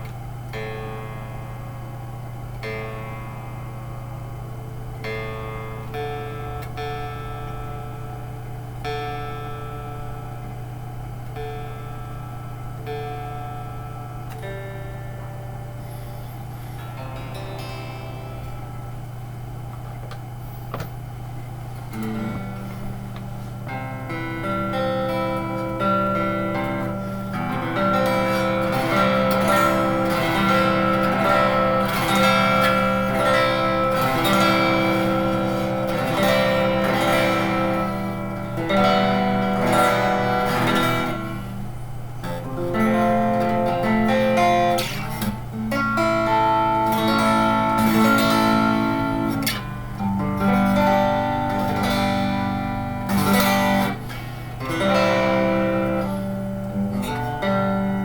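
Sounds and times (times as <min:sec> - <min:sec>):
amplifier hum: 0:00.0 - 0:58.0
clean electric guitar: 0:00.0 - 0:58.0.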